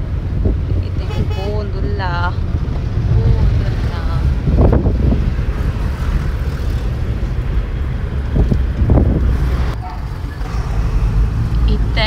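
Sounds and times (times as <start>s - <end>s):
car driving heard from inside: 0.0s - 12.0s.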